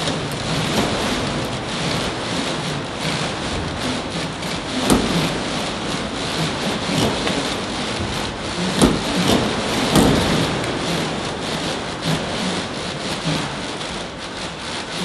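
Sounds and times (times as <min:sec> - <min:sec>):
timber creaks and crackles: 0:00.0 - 0:15.0
wooden house rumbling and rattling: 0:00.0 - 0:15.0.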